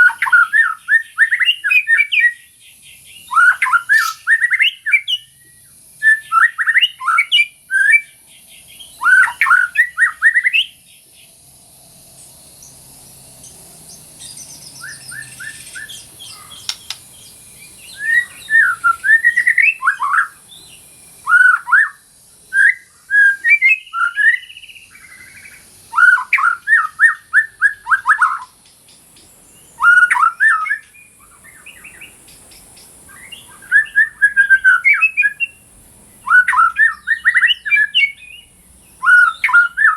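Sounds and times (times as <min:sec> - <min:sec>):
bird singing whistled phrases: 0:00.0 - 0:10.8, 0:14.2 - 0:28.6, 0:29.6 - 0:32.2, 0:33.1 - 0:35.6, 0:36.2 - 0:39.9.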